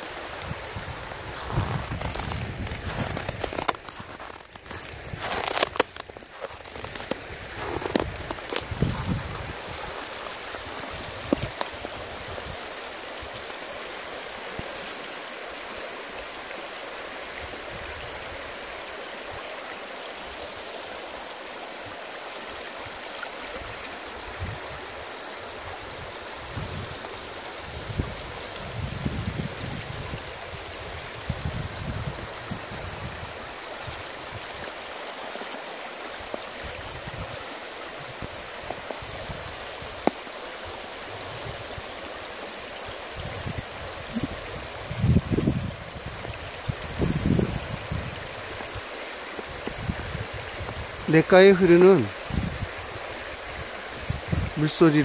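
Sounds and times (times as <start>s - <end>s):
stream babbling over stones: 0.0s - 55.0s.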